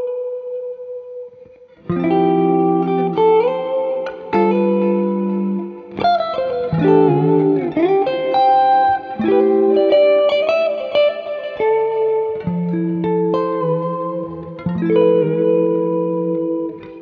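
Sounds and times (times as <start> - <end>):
clean electric guitar chords: 0.0 - 17.0.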